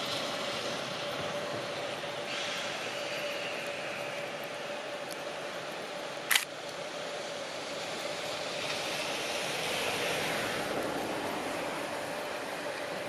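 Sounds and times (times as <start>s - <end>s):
railcar rumbling across bridge: 0.0s - 13.0s.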